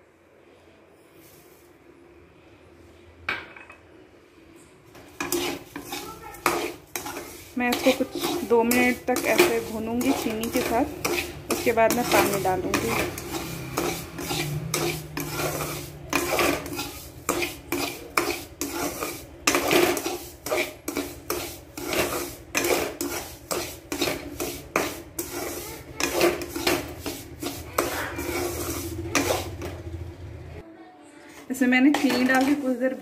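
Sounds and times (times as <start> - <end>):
metal spatula scraping pan: 5.0 - 30.2, 31.3 - 33.0.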